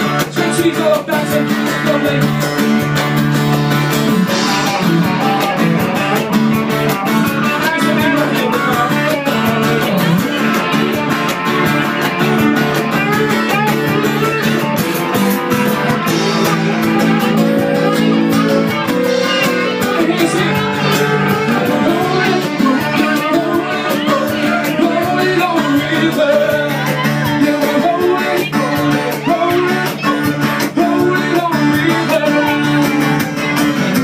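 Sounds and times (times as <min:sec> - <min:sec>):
live band playing guitar music: 0:00.0 - 0:34.0.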